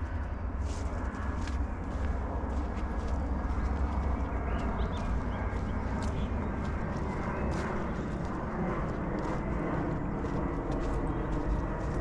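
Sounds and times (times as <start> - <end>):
footsteps crunching on forest path: 0.0 - 12.0
steady low rumble: 0.0 - 12.0.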